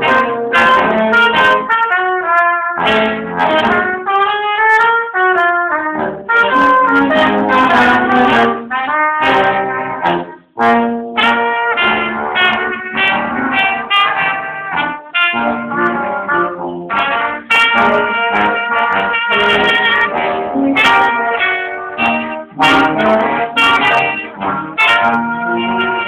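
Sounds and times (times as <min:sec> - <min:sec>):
brass ensemble playing: 0:00.0 - 0:26.0.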